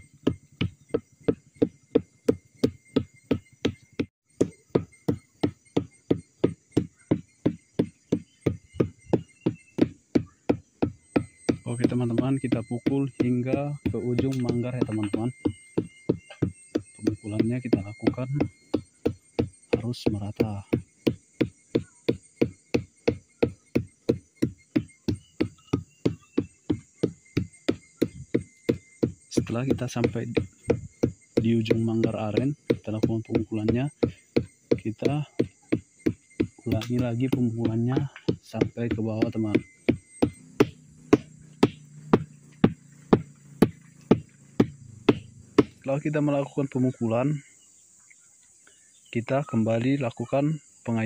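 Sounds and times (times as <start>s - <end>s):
mallet beating palm stalk: 0.0s - 46.2s.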